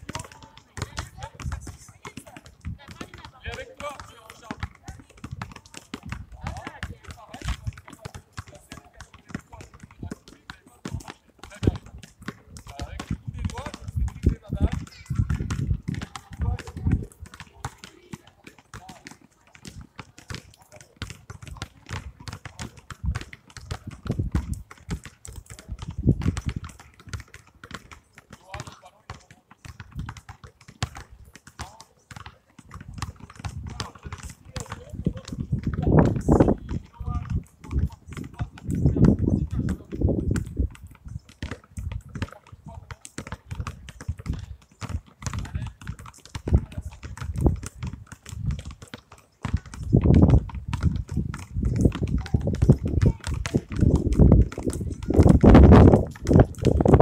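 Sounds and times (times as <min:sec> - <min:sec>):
basketballs bouncing on asphalt: 0:00.0 - 0:57.0.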